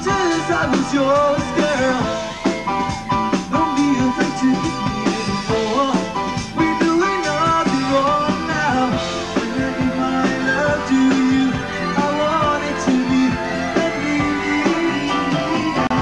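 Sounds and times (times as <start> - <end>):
man singing rock song: 0.0 - 2.6, 3.3 - 16.0
rock band playing: 0.0 - 16.0.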